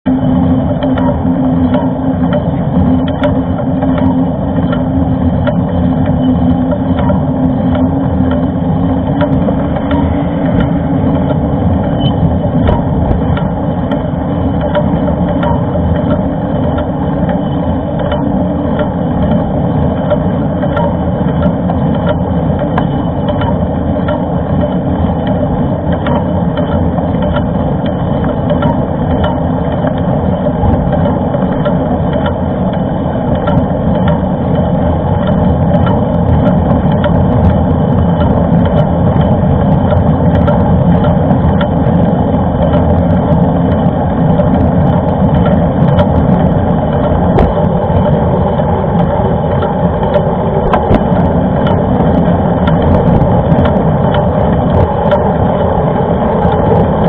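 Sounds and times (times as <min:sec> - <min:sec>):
wind and riding noise: 0:00.0 - 0:57.0
bike clicks and rattles: 0:00.1 - 0:57.0.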